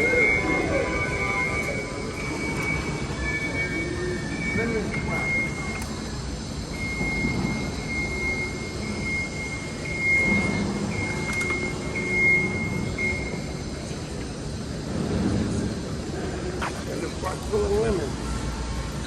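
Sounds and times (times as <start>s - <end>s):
high-pitched whine: 0.0s - 19.0s
low city rumble: 0.0s - 19.0s.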